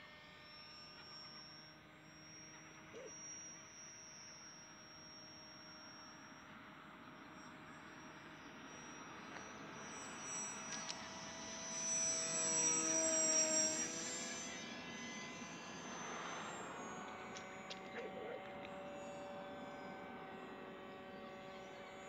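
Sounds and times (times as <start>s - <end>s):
model jet plane whine: 0.0s - 22.0s.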